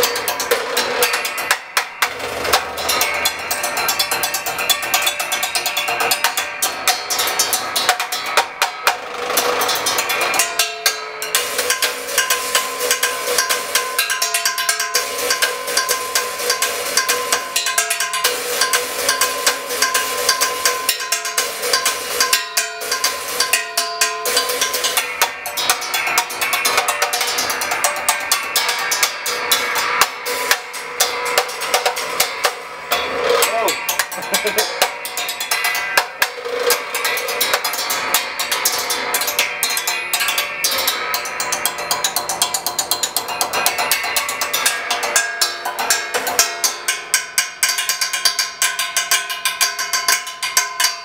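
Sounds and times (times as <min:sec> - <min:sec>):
sticks striking metal coil: 0:00.0 - 0:51.0.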